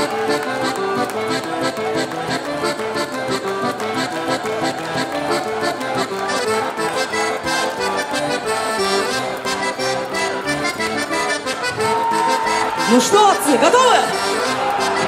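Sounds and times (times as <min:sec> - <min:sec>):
accordion folk tune: 0:00.0 - 0:15.0.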